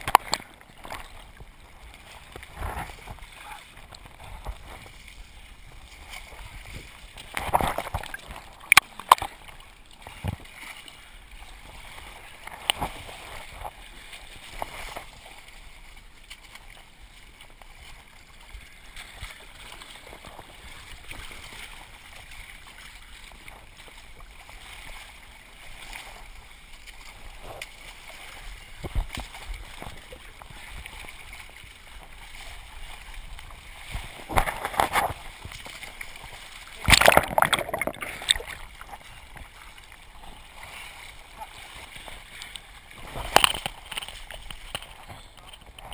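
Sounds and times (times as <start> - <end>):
muddy water sloshing: 0.0 - 45.9.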